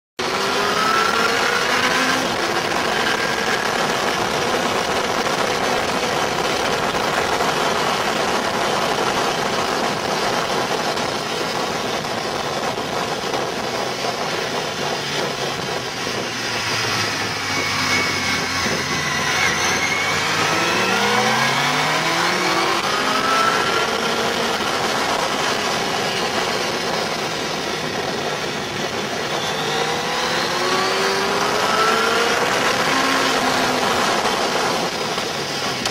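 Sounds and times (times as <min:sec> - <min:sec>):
motorcycle engine accelerating: 0:00.2 - 0:35.9
wind and road noise: 0:00.2 - 0:35.9.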